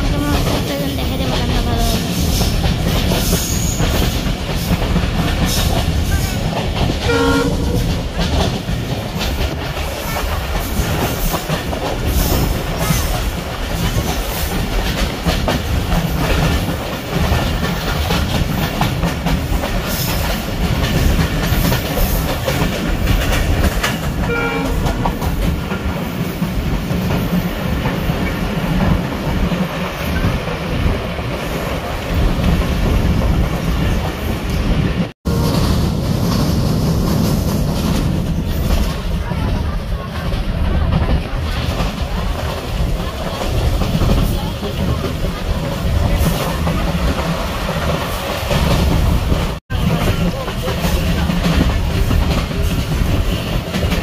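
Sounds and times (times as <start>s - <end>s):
train rumble: 0.0s - 54.0s
wheels clacking over rail joints: 0.0s - 54.0s.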